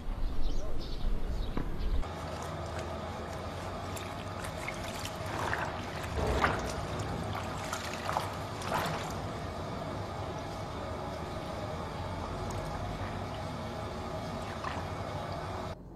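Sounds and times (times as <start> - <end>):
water splashes: 2.0 - 15.8
water trickling: 2.0 - 15.8.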